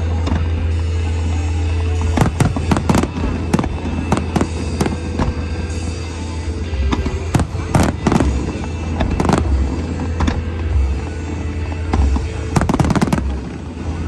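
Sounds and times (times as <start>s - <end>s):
fireworks bangs: 0.0s - 14.0s
music: 0.0s - 14.0s.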